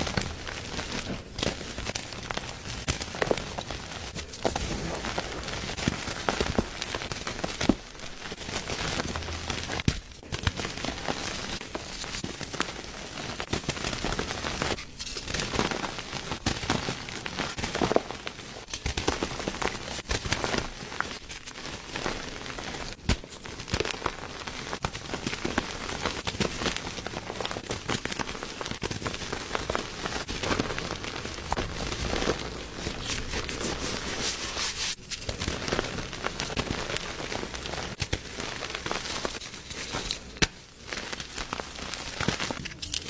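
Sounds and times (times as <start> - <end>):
chalk blocks crunching: 0.0 - 43.0.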